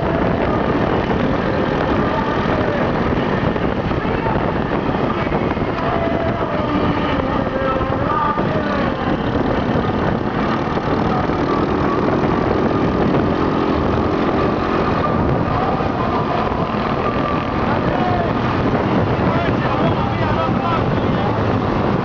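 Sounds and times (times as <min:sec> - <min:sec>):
dense rushing noise: 0:00.0 - 0:22.0
small off-road engines running: 0:00.0 - 0:22.0.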